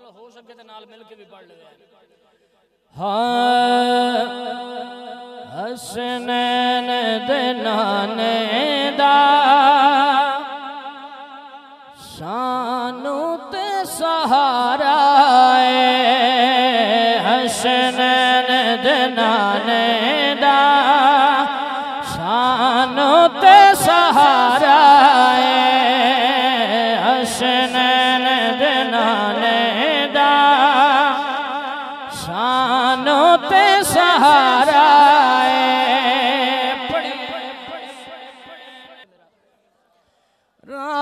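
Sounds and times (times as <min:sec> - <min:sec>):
man singing unaccompanied: 0:03.0 - 0:39.2, 0:40.6 - 0:41.0.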